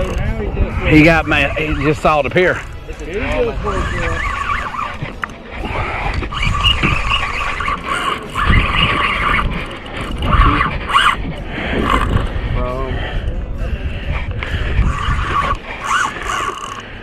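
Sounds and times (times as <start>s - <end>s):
fishing reel drag buzzing: 0.0s - 12.3s, 14.4s - 17.0s
wind rumble on microphone: 0.0s - 17.0s.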